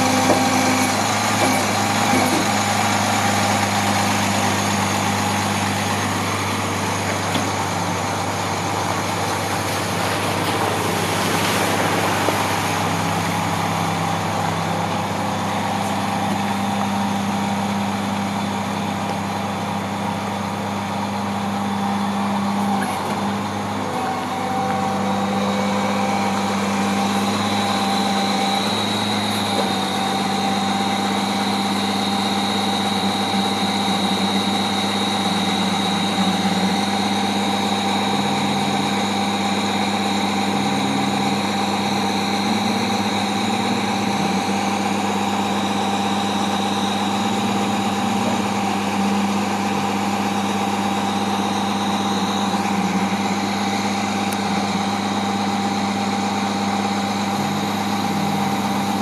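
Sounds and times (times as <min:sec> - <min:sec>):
diesel engine running: 0:00.0 - 0:59.0
hydraulics working: 0:00.0 - 0:59.0
thin high whine: 0:00.0 - 0:59.0.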